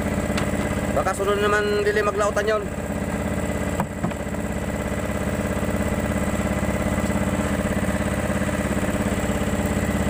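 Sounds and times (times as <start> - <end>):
small boat engine running: 0.0 - 10.0.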